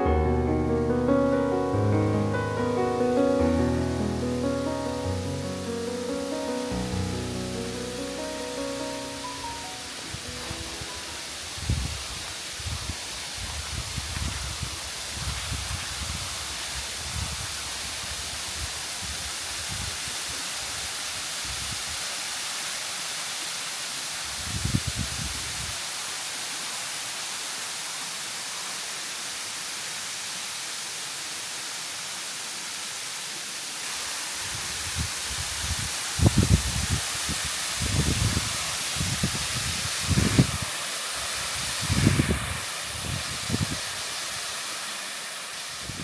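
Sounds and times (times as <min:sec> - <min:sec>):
waterfall rushing: 0:00.0 - 0:24.4, 0:25.8 - 0:46.0.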